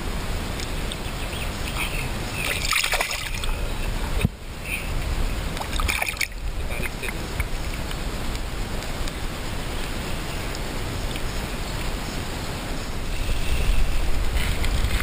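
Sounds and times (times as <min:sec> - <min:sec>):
river water splashing: 0:00.0 - 0:14.3.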